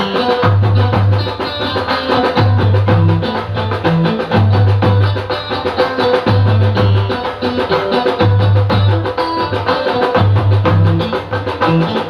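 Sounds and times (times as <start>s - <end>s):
fast drums: 0.0s - 12.0s
live band music: 0.0s - 12.0s.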